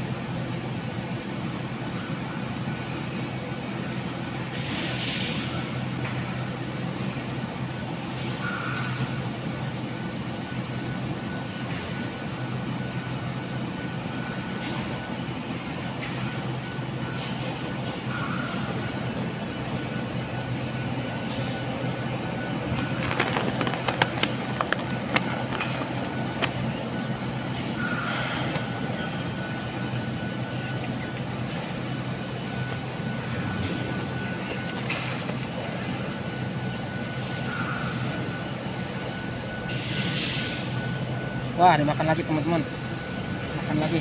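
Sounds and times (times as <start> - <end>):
low hum of distant machinery: 0.0 - 44.0.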